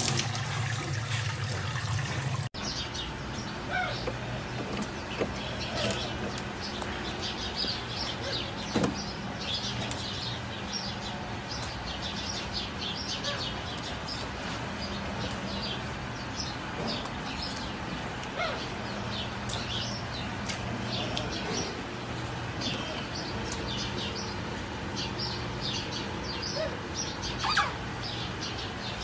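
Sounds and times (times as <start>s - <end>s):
small birds chirping: 2.6s - 29.0s.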